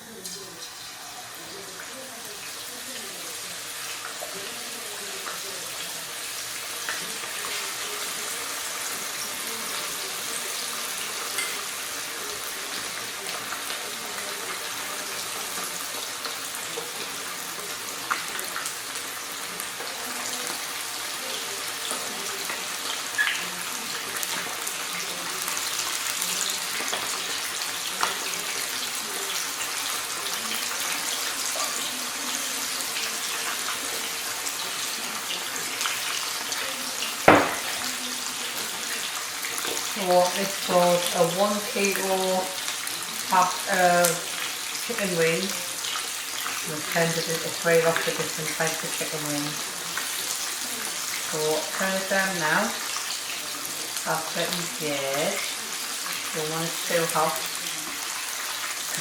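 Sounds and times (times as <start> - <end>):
wings sizzling in hot oil: 0.0 - 59.0
oil popping and crackling: 6.2 - 59.0.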